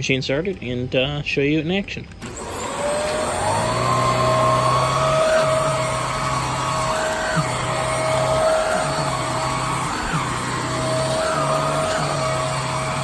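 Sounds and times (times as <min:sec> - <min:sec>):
vacuum cleaner motor running: 0:02.2 - 0:13.0.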